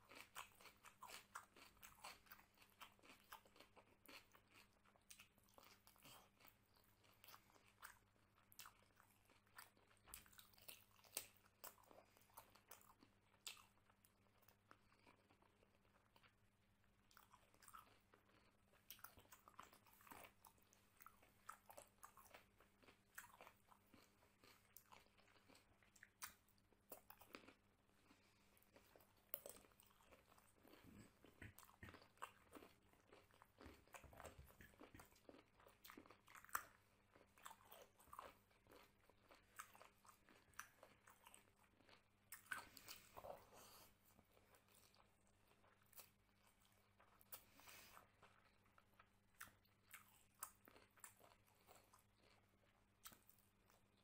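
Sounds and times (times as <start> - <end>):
man chewing: 0.1 - 13.8, 17.1 - 53.8.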